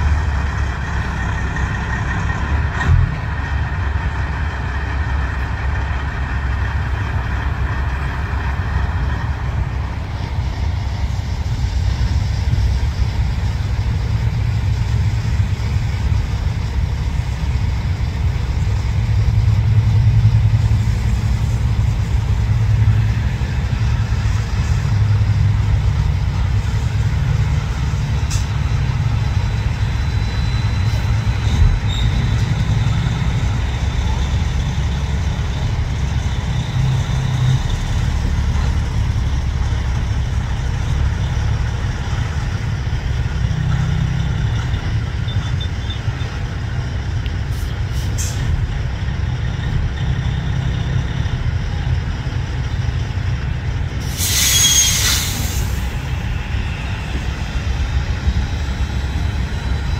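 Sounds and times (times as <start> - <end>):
diesel truck engines rumbling: 0.0 - 59.9.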